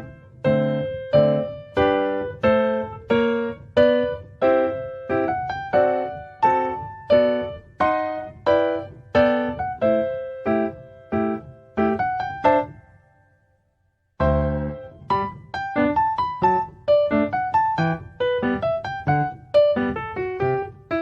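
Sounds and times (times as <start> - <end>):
slow piano chords: 0.0 - 13.5, 14.2 - 21.0.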